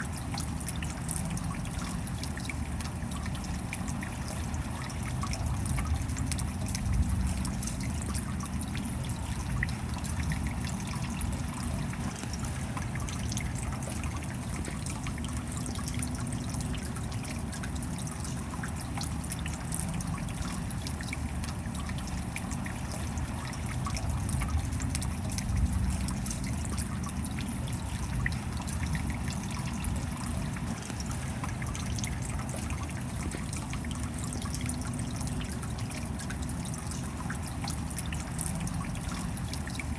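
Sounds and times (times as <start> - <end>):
steady rainfall: 0.0 - 39.9
water trickling and dripping: 0.0 - 39.9.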